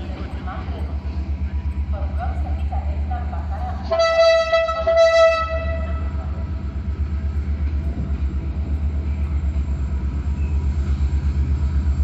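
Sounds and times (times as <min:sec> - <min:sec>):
diesel locomotive engine throbbing: 0:00.0 - 0:12.0.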